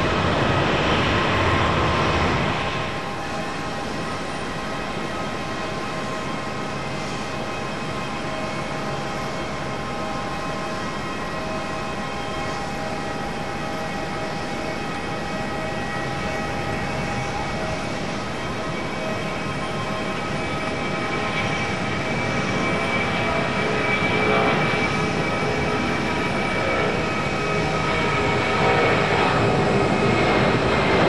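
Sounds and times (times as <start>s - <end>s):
jet engines whining: 0.0s - 31.0s.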